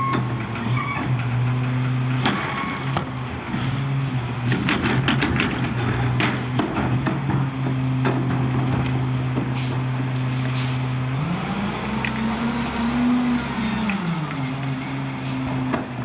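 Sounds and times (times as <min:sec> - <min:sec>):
garbage truck engine: 0:00.0 - 0:16.0.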